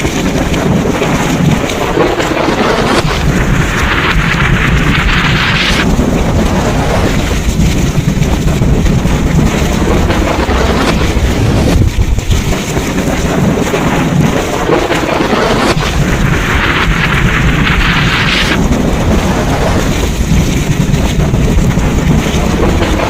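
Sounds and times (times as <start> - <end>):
rolling thunder: 0.0 - 23.0
steady rain: 0.0 - 23.0.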